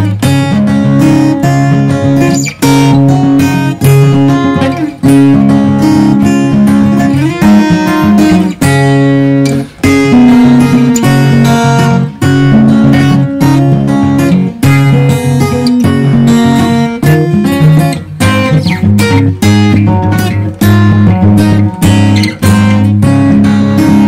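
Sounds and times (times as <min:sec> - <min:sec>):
strummed acoustic guitar music: 0:00.0 - 0:24.0.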